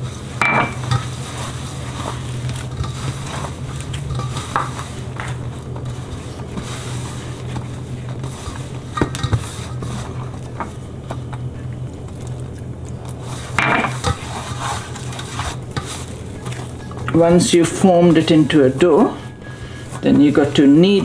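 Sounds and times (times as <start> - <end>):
dough squashing against metal bowl: 0.0 - 21.0.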